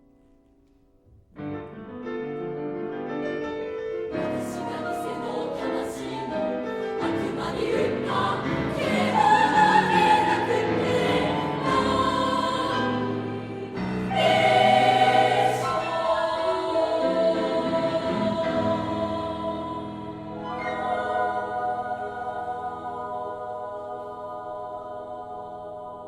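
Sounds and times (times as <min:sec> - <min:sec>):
piano accompaniment: 0:00.0 - 0:25.8
girls' choir singing: 0:04.2 - 0:26.0.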